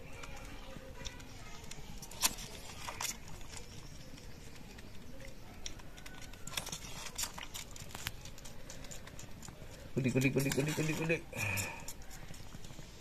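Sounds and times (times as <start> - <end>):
animal suckling from bottle: 0.0 - 13.0.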